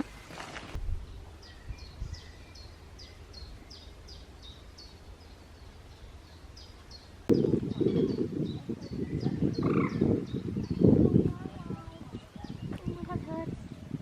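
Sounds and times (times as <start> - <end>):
small songbird singing: 0.0 - 14.0
wind rumble on microphone: 0.6 - 14.0.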